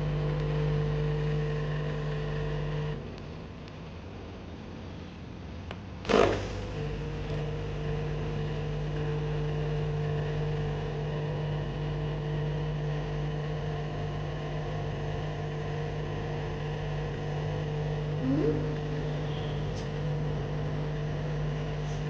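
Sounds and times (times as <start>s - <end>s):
espresso machine pump humming: 0.0s - 3.0s, 6.1s - 22.0s.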